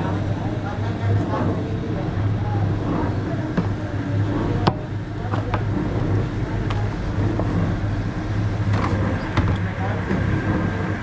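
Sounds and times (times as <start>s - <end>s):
low drone of machinery: 0.0s - 11.0s.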